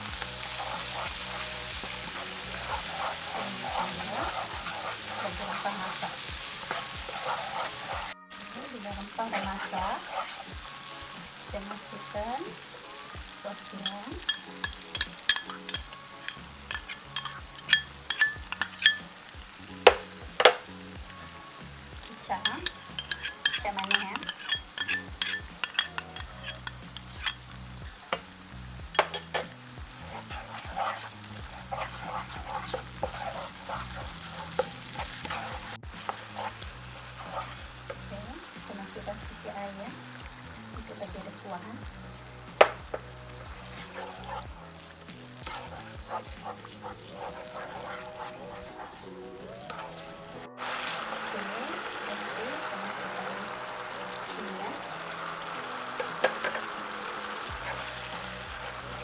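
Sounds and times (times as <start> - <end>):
spatula scraping a pan: 0.0 - 11.5, 13.7 - 20.7, 22.2 - 28.3, 28.9 - 39.5, 42.5 - 59.0
food sizzling in hot oil: 0.0 - 59.0.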